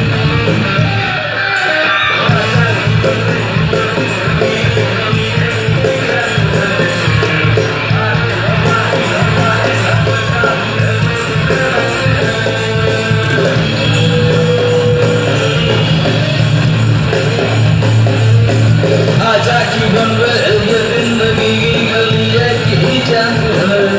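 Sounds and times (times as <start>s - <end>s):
bass guitar: 0.0s - 23.9s
drum kit: 0.0s - 23.9s
electric guitars: 0.0s - 23.9s.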